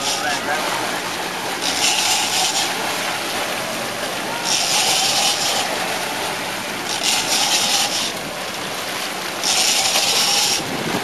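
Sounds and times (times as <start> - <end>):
boat engine water and wind rush: 0.0 - 11.0.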